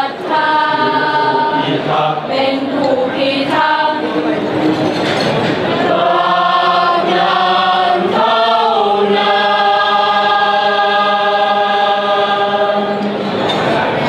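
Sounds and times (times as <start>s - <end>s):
men singing in chorus: 0.0s - 4.5s, 5.8s - 13.3s.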